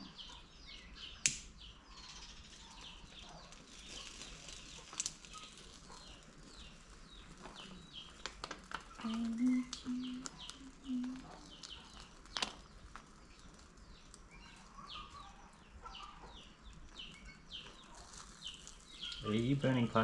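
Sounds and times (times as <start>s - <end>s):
low pitched bird calls: 0.0s - 20.0s
small birds chirping: 0.0s - 20.0s.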